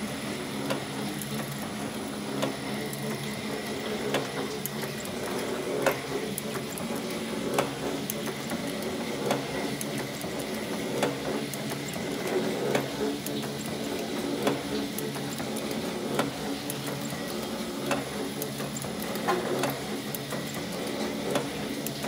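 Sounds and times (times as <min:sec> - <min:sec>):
motor and drive hum: 0:00.0 - 0:22.0.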